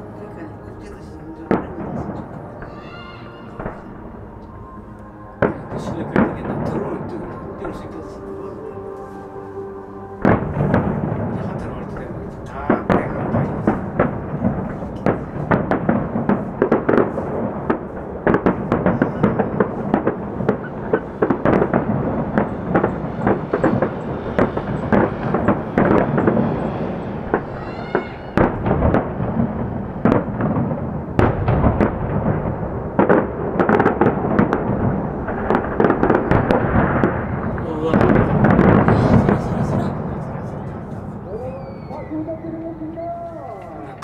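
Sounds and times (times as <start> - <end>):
low rumble of explosions: 0.0 - 9.0, 9.6 - 44.0
fireworks bangs: 0.1 - 9.0, 10.2 - 44.0.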